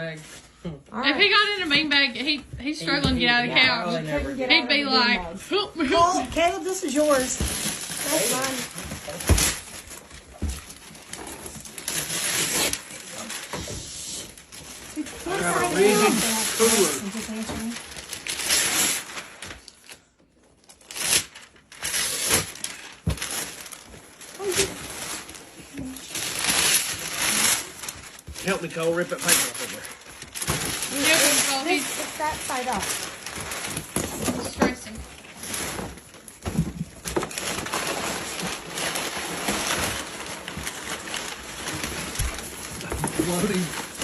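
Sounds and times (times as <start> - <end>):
wrapping paper tearing and rustling: 6.4 - 44.0.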